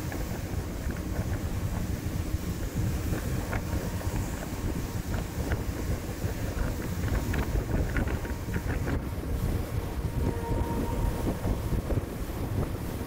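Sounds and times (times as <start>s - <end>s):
speedboat engine rumble: 0.0s - 13.0s
wind on microphone: 0.0s - 13.0s.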